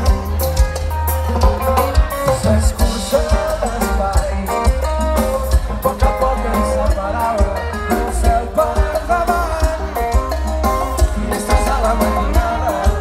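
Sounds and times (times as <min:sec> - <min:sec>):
bass line: 0:00.0 - 0:13.0
drums: 0:00.0 - 0:13.0
live band playing latin song: 0:00.0 - 0:13.0.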